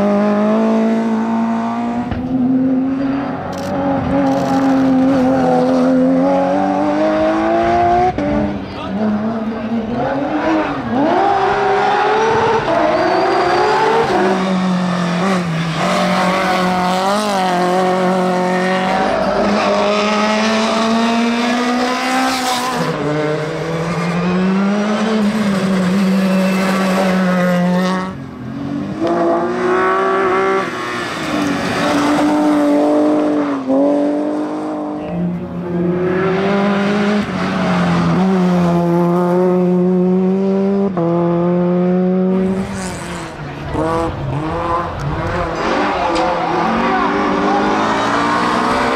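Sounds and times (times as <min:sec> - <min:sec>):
racing car engines revving: 0:00.0 - 0:48.9.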